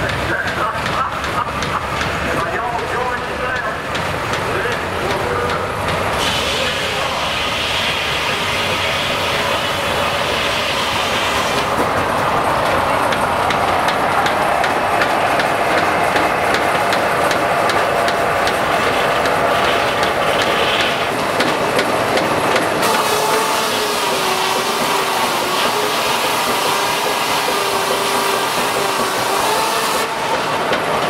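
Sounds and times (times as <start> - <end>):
sawmill machinery clattering: 0.0 - 31.0.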